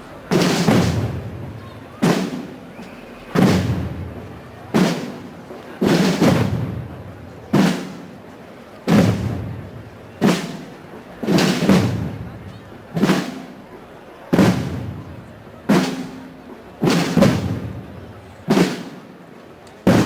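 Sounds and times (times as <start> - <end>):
procession drums beating a march: 0.0 - 19.1.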